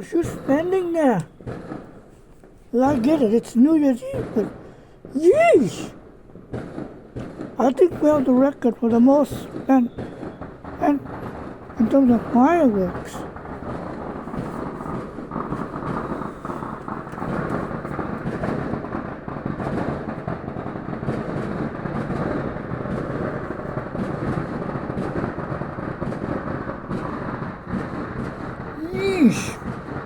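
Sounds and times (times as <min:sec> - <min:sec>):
fireworks bangs rumbling: 0:00.0 - 0:30.0.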